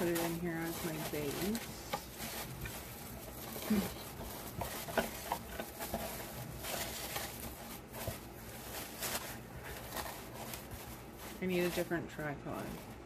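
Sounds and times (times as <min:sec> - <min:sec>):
plastic garland rustling: 0:00.0 - 0:13.0.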